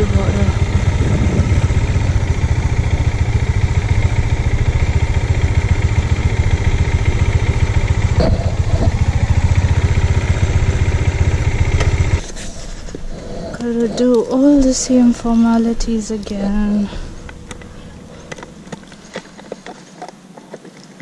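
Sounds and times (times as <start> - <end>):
motorcycle engine running: 0.0 - 12.4, 13.8 - 19.7.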